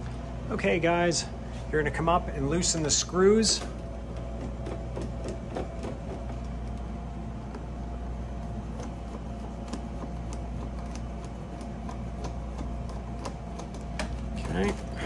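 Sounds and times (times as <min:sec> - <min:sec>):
ice machine humming: 0:01.8 - 0:15.0.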